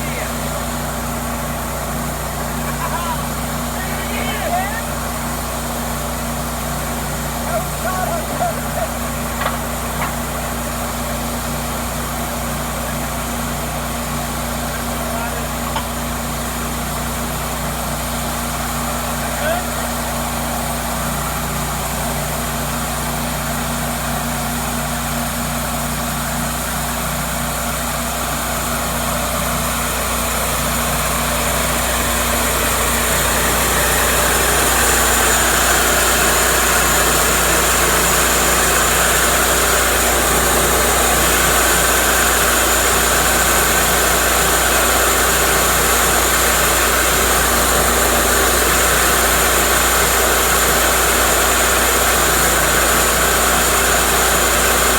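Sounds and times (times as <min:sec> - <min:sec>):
band sawmill engine drone: 0:00.0 - 0:54.9.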